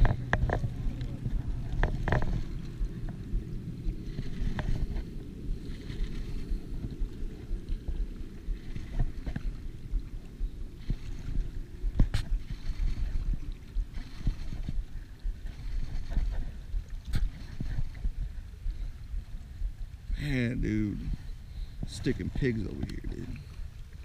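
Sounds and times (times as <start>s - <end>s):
lapping water: 0.0s - 24.0s
wind rumbling on microphone: 0.0s - 24.0s.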